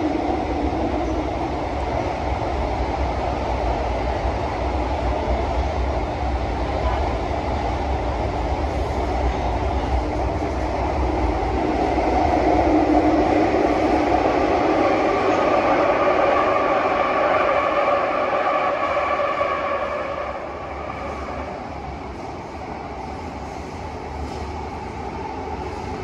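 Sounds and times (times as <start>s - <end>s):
train running rumble: 0.0s - 26.0s.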